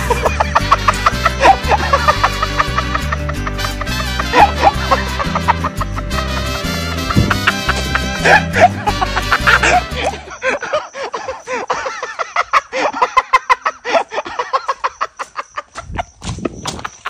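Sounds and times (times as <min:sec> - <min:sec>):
person laughing hard: 0:00.0 - 0:17.0.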